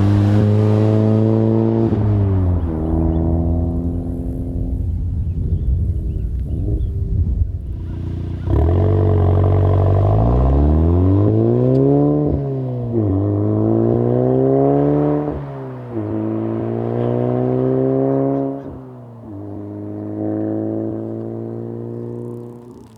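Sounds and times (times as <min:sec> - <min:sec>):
car engine accelerating hard: 0:00.0 - 0:22.9.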